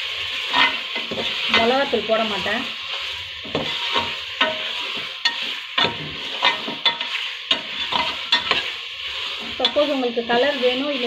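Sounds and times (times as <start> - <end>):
frying hiss: 0.0 - 11.0
metal ladle scraping a pot: 0.3 - 1.8, 2.7 - 11.0.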